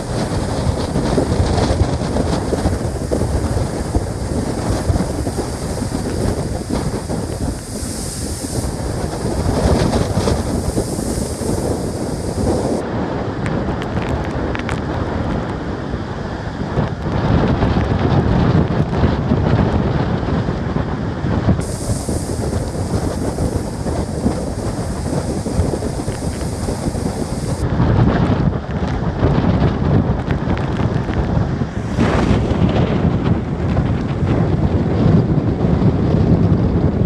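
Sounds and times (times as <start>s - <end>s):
rough sea rushing: 0.0s - 28.1s, 30.4s - 34.8s
wind buffeting microphone: 0.0s - 37.0s.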